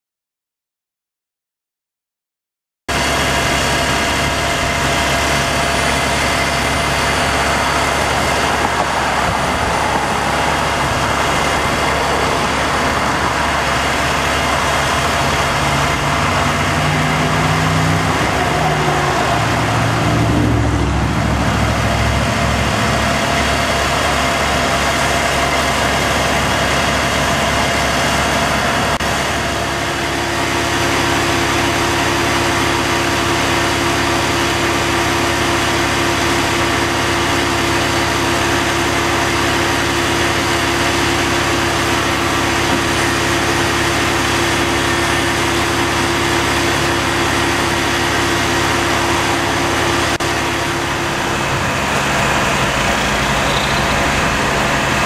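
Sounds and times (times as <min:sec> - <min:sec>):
truck diesel engine idling: 0:02.9 - 0:55.0.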